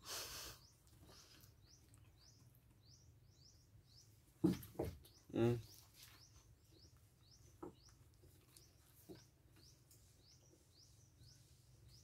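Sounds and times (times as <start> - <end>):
faint high bird chirp: 0.3 - 12.0.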